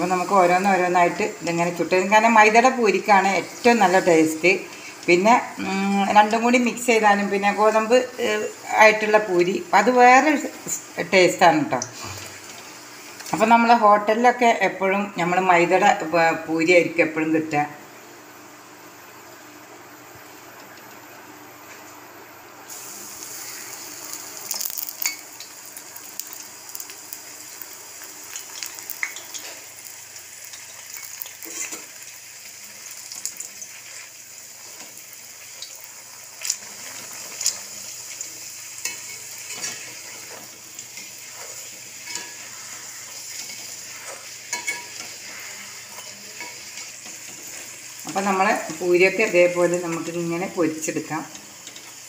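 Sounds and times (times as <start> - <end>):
dough sizzling in hot oil: 0.0 - 14.7, 22.6 - 52.0.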